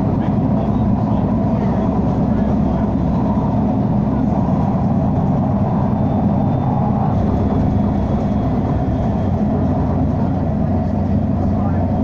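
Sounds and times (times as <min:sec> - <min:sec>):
tram interior rumble: 0:00.0 - 0:12.0.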